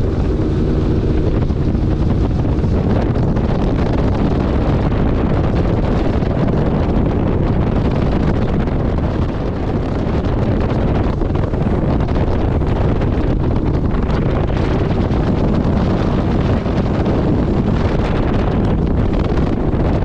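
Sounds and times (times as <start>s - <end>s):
boat engine: 0.0s - 20.0s
water noise: 0.0s - 20.0s
wind buffeting microphone: 0.0s - 20.0s.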